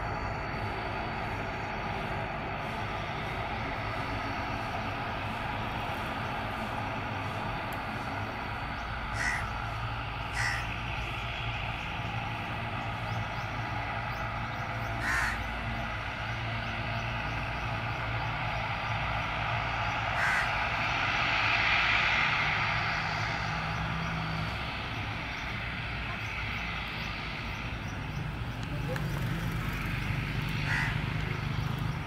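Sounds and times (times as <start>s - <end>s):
engine hiss: 0.0s - 32.0s
turboprop propeller drone: 0.0s - 32.0s.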